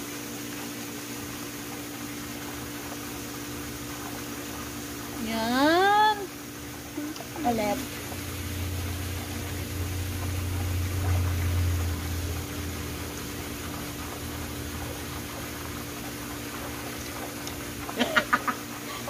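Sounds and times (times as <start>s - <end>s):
pool water jet splashing: 0.0s - 19.0s
steady low hum: 2.3s - 19.0s.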